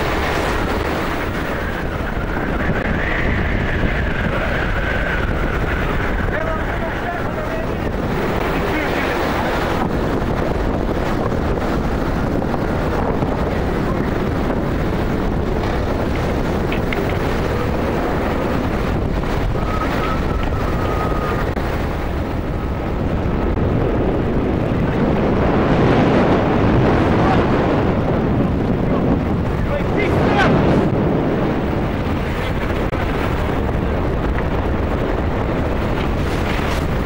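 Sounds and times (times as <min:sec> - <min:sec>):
heavy seas breaking: 0:00.0 - 0:37.0
wind buffeting microphone: 0:00.0 - 0:37.0.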